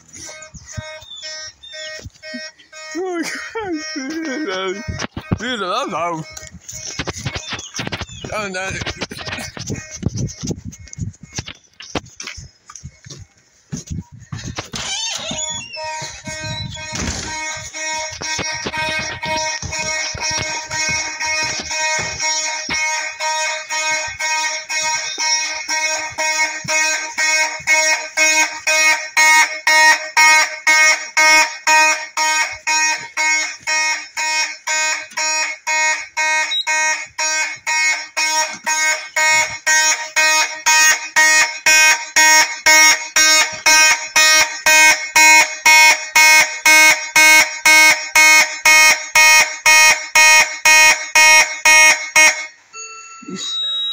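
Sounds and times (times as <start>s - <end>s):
fire alarm horn pulsing: 0.0s - 11.6s, 14.4s - 53.9s.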